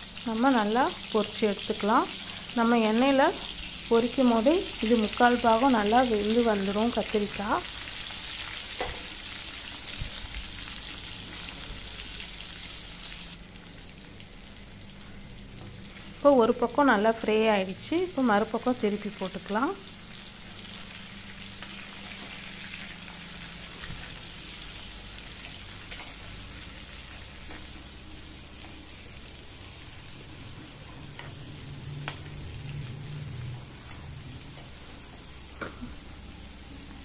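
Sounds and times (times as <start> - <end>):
vegetables sizzling in hot oil: 0.0 - 37.0.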